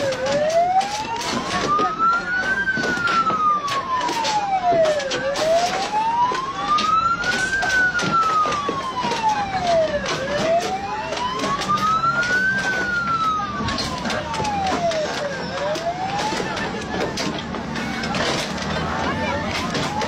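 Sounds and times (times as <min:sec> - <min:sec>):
wailing siren: 0:00.0 - 0:20.0.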